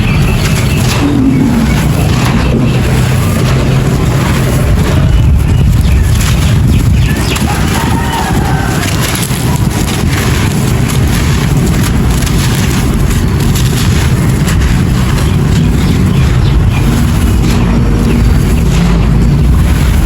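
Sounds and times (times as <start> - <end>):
clay pieces crunching: 0.0 - 20.0
low rumble: 0.0 - 20.0.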